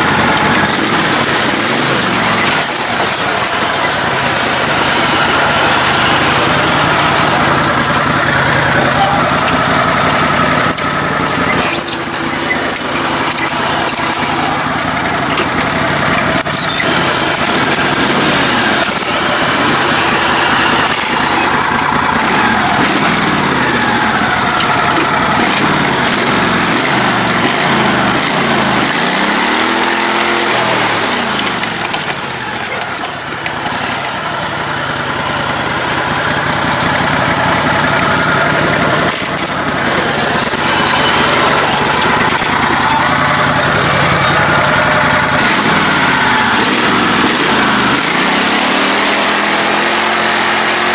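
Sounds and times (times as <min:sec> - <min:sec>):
riding mower engine running: 0:00.0 - 0:50.9.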